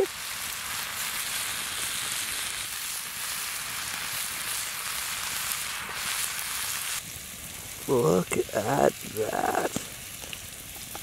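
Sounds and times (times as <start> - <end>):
steak sizzling in frying pan: 0.0 - 11.0.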